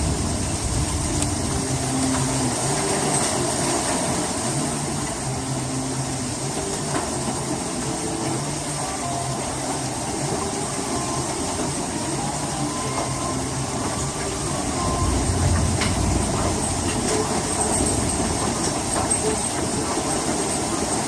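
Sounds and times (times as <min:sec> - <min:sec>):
hail and heavy rain: 0:00.0 - 0:21.0.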